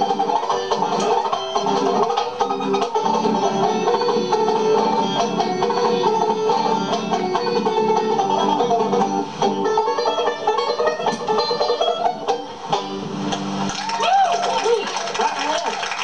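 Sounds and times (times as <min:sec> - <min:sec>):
fast ragtime string band: 0:00.0 - 0:12.9, 0:14.4 - 0:16.0
plucked upright bass: 0:00.0 - 0:13.6
banjos picking quick runs: 0:00.0 - 0:14.0.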